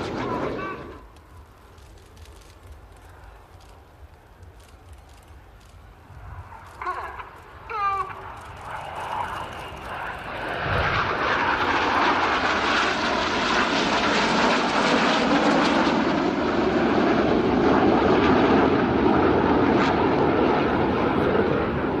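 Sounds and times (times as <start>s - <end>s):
jets flying past roaring: 0.0s - 4.4s, 5.3s - 22.0s.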